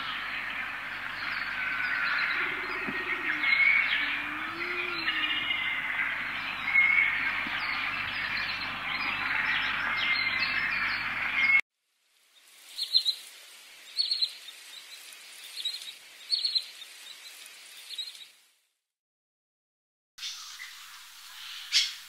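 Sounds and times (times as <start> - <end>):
chorus of birds singing: 0.0 - 11.6, 12.4 - 18.4, 20.2 - 22.0.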